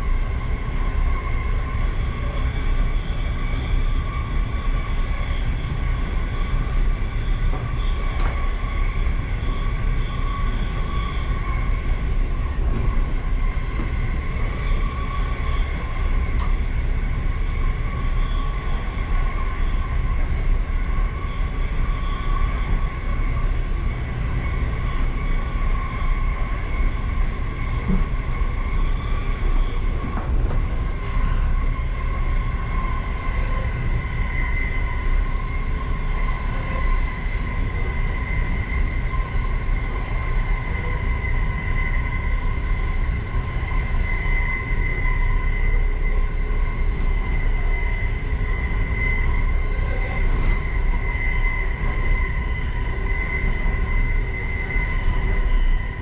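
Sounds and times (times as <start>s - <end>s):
train high whine: 0.0s - 56.0s
train wheels rumbling on rails: 0.0s - 56.0s.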